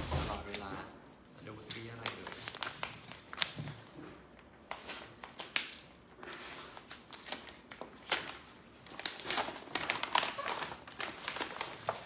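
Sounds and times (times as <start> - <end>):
paper wrapping rustling and crinkling: 0.0 - 12.0.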